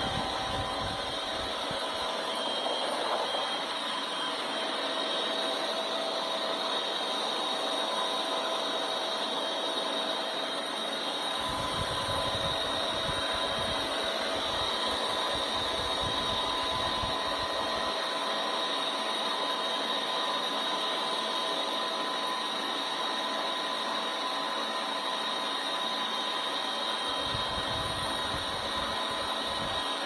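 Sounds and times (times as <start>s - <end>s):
helicopter rotor noise: 0.0s - 30.0s
helicopter turbine whine: 0.0s - 30.0s.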